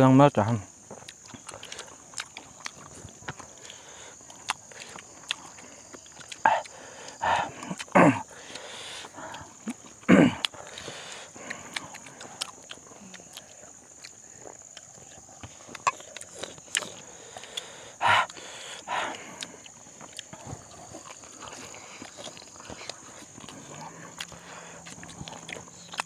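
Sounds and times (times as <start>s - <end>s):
chewing and smacking: 0.7s - 26.0s
crunchy bites: 0.7s - 26.0s.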